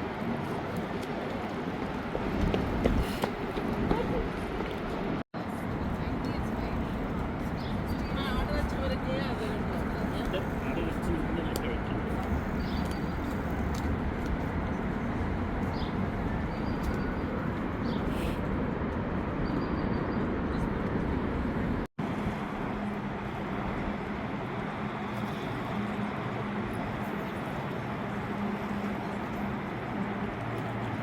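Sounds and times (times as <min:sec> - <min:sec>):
city traffic rumble: 0:00.0 - 0:31.0.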